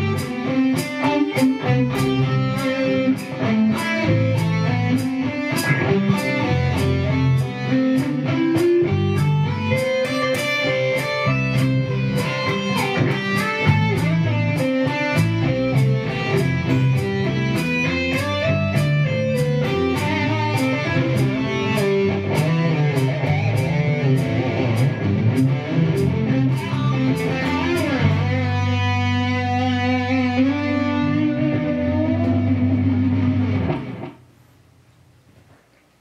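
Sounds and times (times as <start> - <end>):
steady beat: 0.0 - 30.2
electric guitar lead: 0.0 - 34.2.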